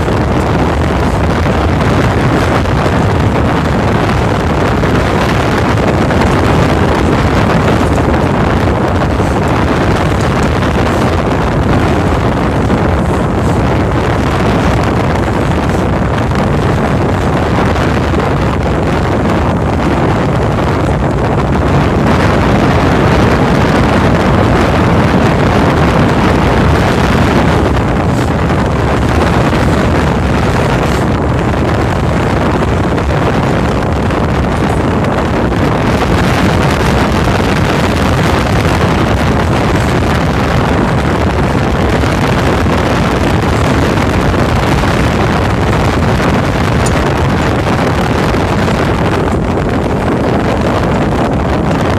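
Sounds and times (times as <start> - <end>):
boat engine running: 0.0 - 51.9
wind buffeting microphone: 0.0 - 51.9.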